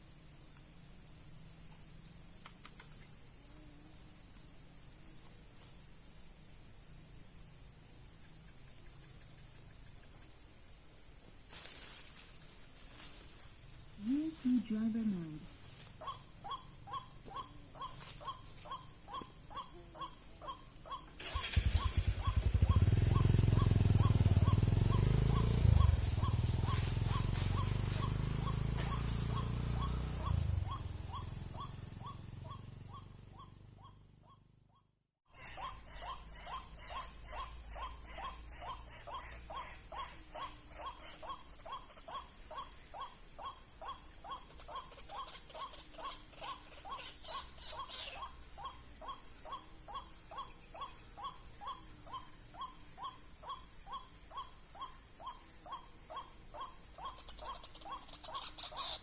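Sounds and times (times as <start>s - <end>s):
high-pitched insect buzz: 0.0s - 10.8s, 11.5s - 34.6s, 35.3s - 59.0s.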